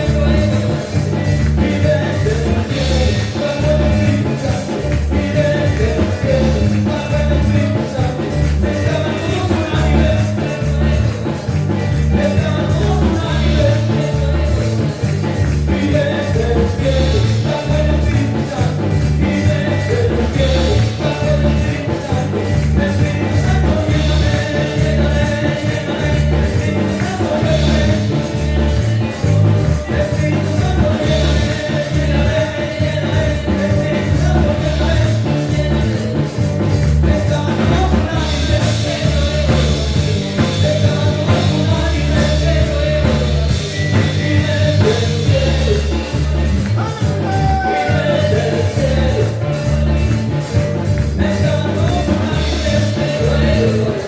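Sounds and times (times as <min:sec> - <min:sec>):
upbeat band music: 0:00.0 - 0:54.0.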